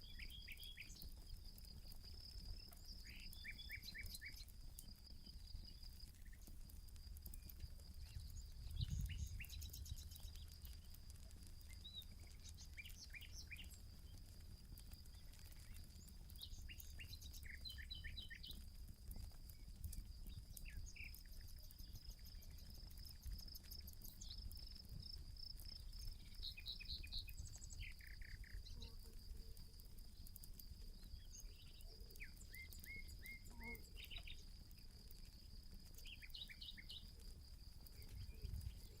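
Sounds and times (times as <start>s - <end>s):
campfire crackle: 0.0s - 39.0s
insect trill: 0.0s - 39.0s
small birds chirping: 0.0s - 39.0s.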